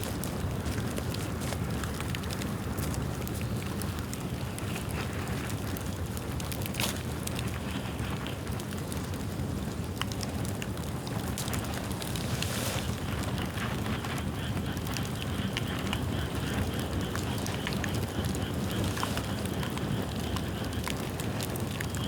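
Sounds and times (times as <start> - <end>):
bamboo crackling and popping: 0.0 - 22.0
bonfire flames rushing: 0.0 - 22.0.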